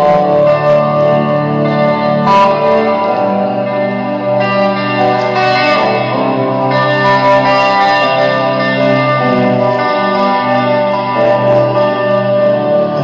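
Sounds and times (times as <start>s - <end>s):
guitar music over speakers: 0.0s - 13.0s.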